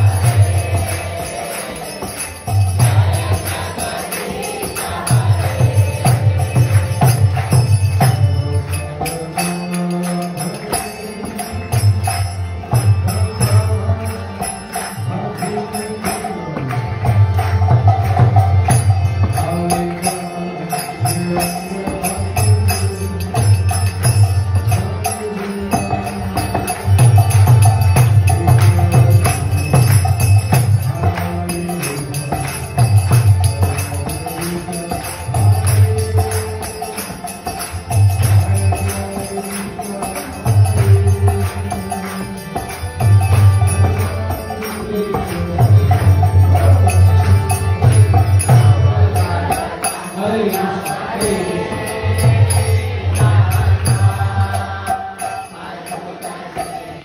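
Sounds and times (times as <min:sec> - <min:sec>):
hand cymbals ringing: 0:00.0 - 0:57.0
harmonium chords: 0:00.0 - 0:57.0.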